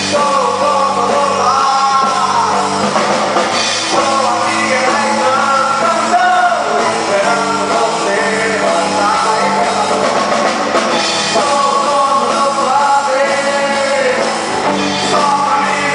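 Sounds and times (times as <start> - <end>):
drum kit: 0.0 - 15.9
electric guitars: 0.0 - 15.9
man singing: 0.0 - 15.9.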